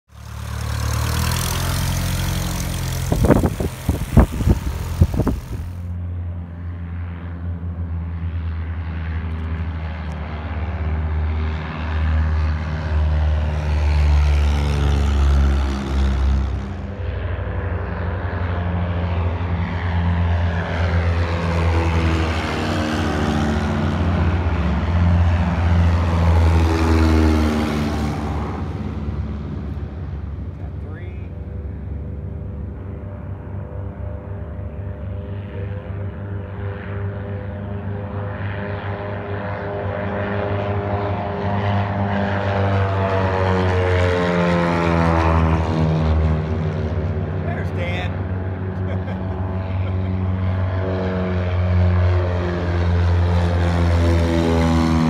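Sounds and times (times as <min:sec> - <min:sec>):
propeller engine drone: 0:00.0 - 0:55.0.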